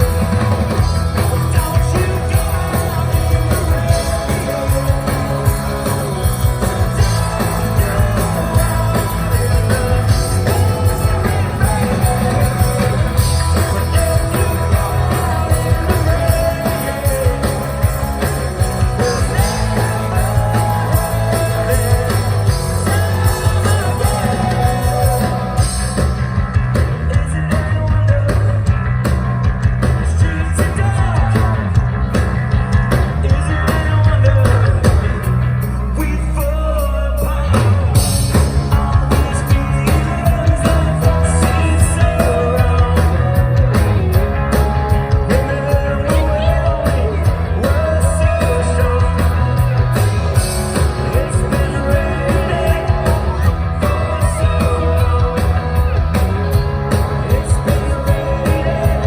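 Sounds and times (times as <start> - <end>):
live rock band playing: 0.0 - 59.0
sustained low bass notes: 0.0 - 59.0.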